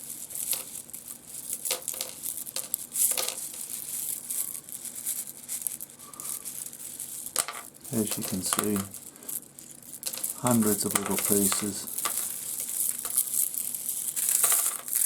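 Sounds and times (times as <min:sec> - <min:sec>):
stones rattling and clicking: 0:00.0 - 0:15.0.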